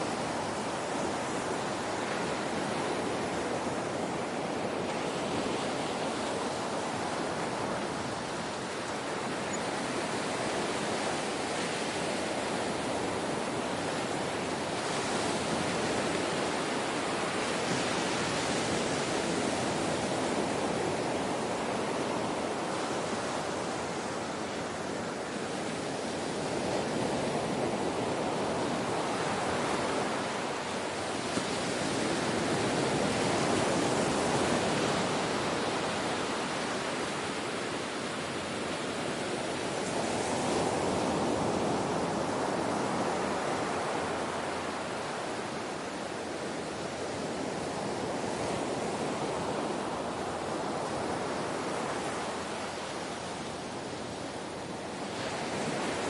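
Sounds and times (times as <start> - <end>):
ocean surf rushing: 0.0 - 56.0.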